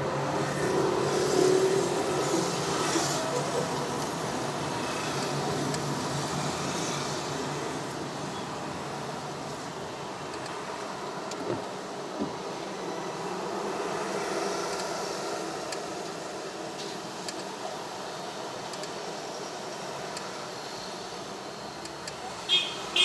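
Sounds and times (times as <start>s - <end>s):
traffic and car engine noise: 0.0s - 23.0s.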